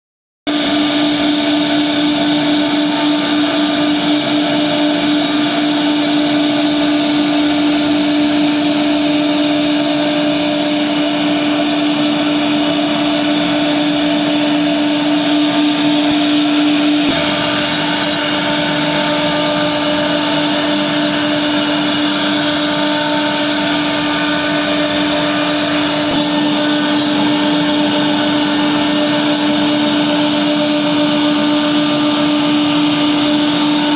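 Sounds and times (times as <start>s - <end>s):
cutter hissing through wood: 0.5s - 33.9s
router spindle whine: 0.5s - 33.9s.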